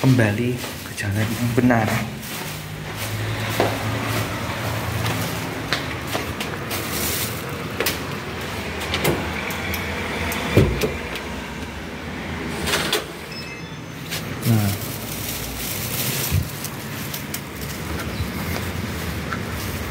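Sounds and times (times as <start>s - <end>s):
car engines passing: 0.0s - 19.9s.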